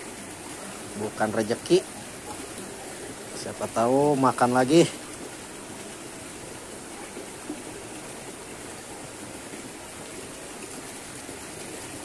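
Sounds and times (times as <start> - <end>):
river water flowing past rocks: 0.0 - 12.0.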